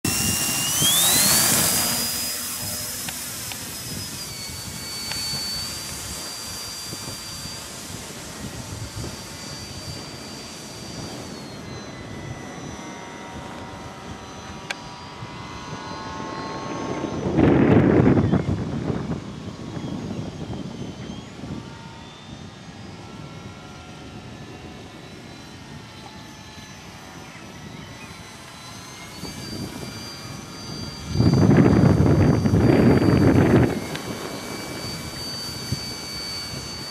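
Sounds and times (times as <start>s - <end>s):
electric motor and propeller whine: 0.0s - 36.9s
wind noise on microphone: 0.0s - 36.9s.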